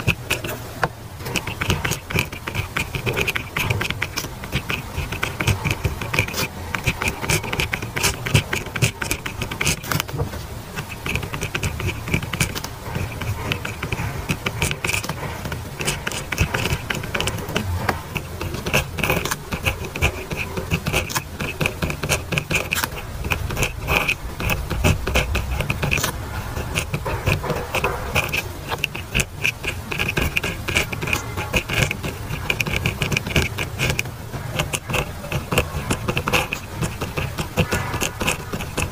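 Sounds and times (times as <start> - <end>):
pen scratching on paper: 0.0 - 38.9.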